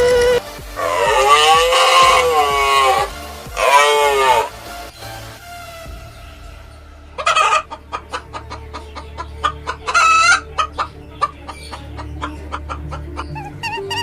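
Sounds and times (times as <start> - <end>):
chicken squawks: 0.0 - 4.5, 7.2 - 14.0
chickens clucking: 0.0 - 4.5, 7.2 - 14.0.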